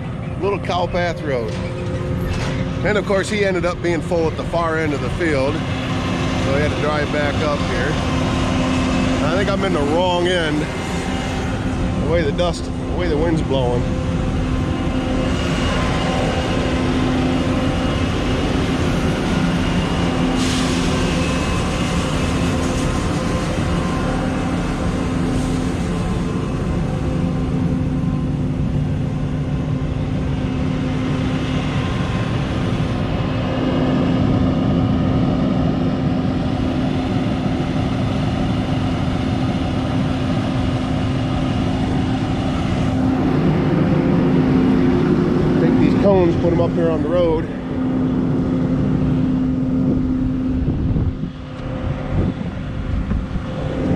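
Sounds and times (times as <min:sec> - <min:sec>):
large vehicle engine running: 0:00.0 - 0:53.9
rushing noise: 0:00.0 - 0:53.9.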